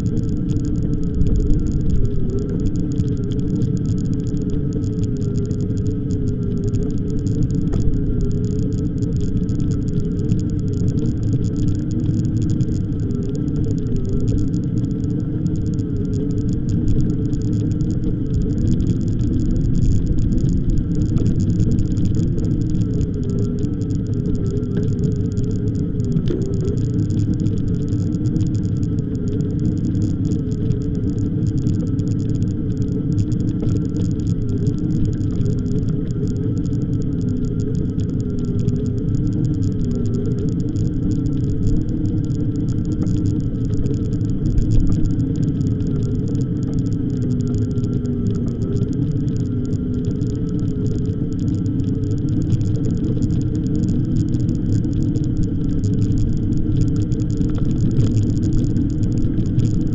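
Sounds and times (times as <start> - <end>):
faint electric motor whine: 0.0 - 59.9
wind and tyres rumbling: 0.0 - 59.9.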